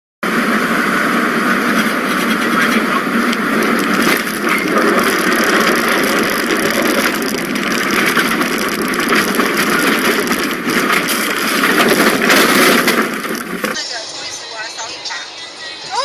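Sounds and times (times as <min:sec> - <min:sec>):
road noise: 0:00.2 - 0:16.0
car engine: 0:00.3 - 0:14.3.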